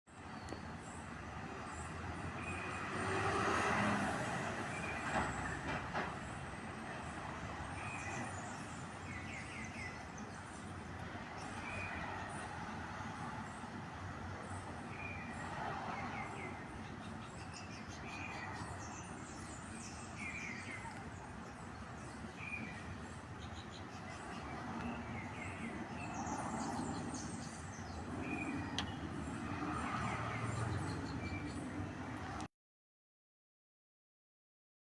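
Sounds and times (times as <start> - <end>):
street traffic hum: 0.1 - 32.5.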